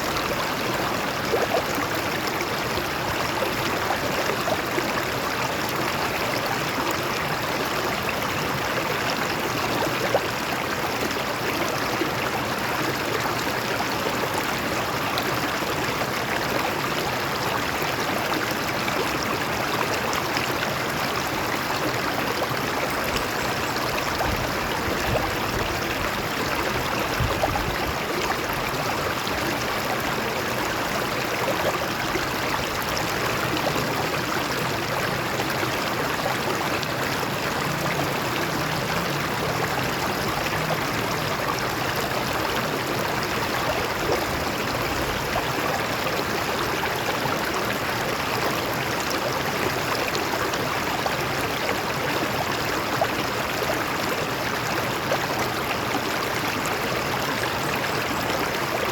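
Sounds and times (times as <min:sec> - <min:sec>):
water running over rocks: 0:00.0 - 0:58.9.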